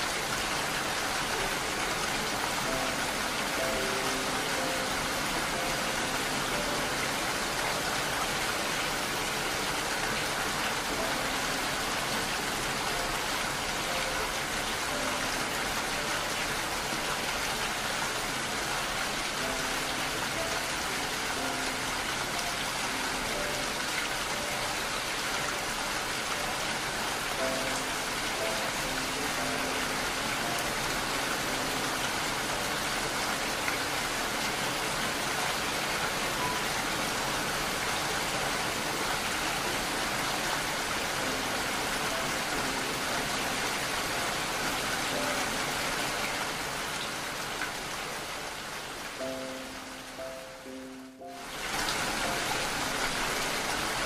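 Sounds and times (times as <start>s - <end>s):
soft slow melody: 0.0s - 54.0s
steady rain: 0.0s - 54.0s.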